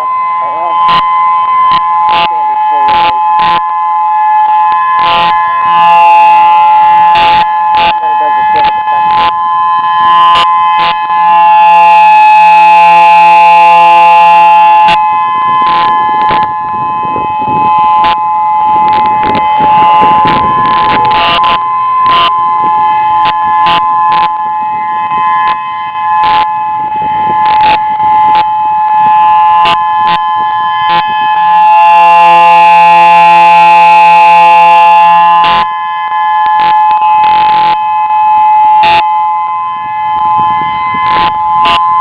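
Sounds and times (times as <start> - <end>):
rough noise: 0.0 - 35.7
two-note warning siren: 0.0 - 42.0.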